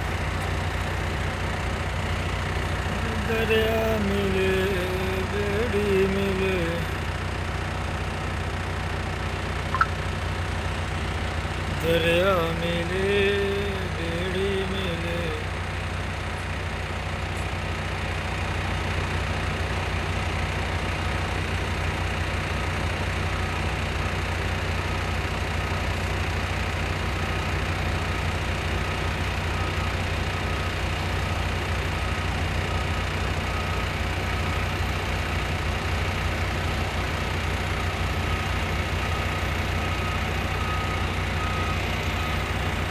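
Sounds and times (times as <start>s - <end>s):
heavy engine rumbling: 0.0s - 42.9s.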